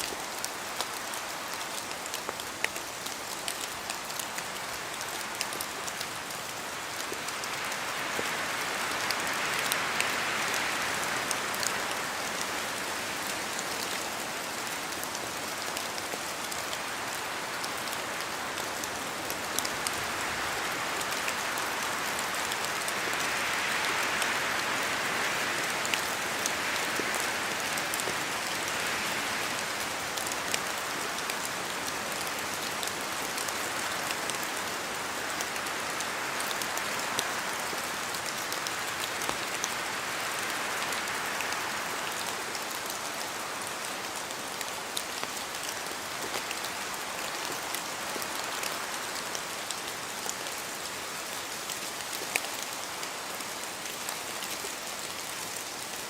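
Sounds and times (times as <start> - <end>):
rain falling in forest: 0.0 - 56.0
wind gust through leaves: 0.0 - 56.0.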